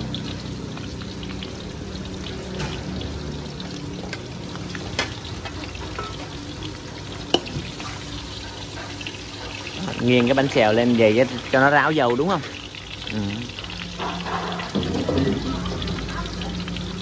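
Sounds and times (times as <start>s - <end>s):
batter sizzling in oil: 0.0s - 17.0s.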